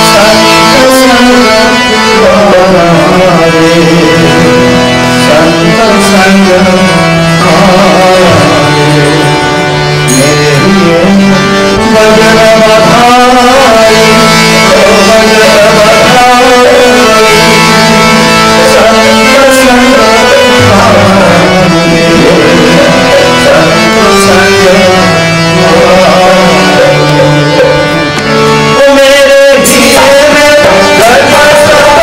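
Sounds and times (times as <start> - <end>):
held chordal accompaniment: 0.0 - 32.0
wavering melody: 2.4 - 32.0.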